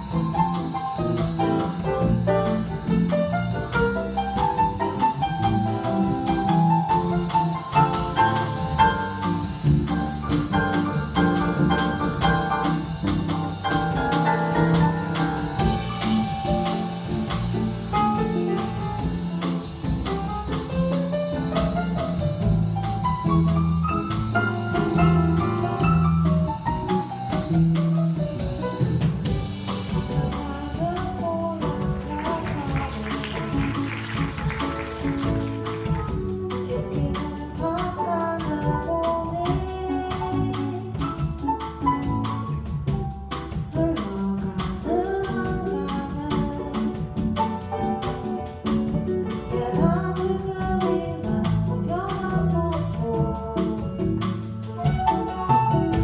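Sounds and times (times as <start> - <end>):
bass: 0.0 - 56.0
drum kit: 0.0 - 56.0
lead melody: 0.0 - 56.0
piano: 0.0 - 56.0.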